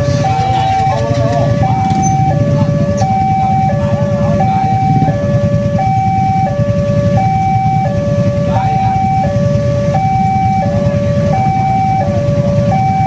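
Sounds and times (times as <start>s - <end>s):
low rumble: 0.0s - 13.0s
two-tone crossing alarm: 0.0s - 13.0s.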